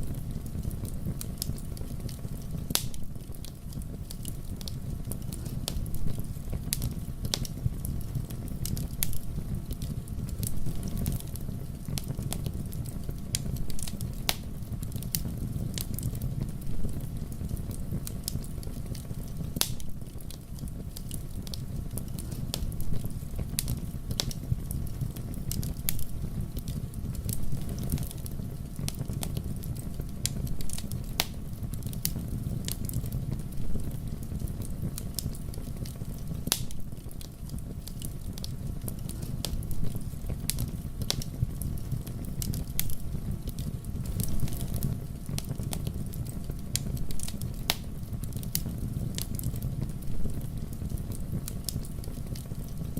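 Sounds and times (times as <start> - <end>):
fire crackling and popping: 0.0 - 52.9
low rumble of flames: 0.0 - 52.9.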